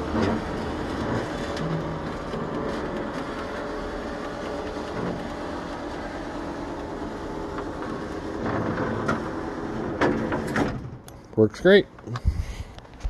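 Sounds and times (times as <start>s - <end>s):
wheelchair lift electric drive: 0.0s - 11.2s.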